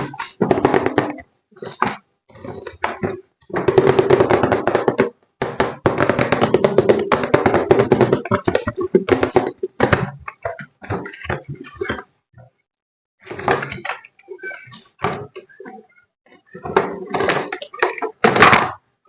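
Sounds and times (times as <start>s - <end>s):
hands tapping and clattering objects: 0.0s - 12.5s, 13.2s - 18.8s.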